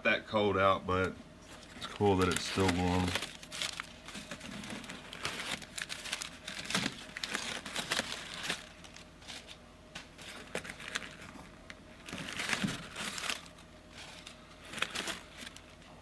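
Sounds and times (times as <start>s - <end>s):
packing material rustling: 1.5s - 16.0s.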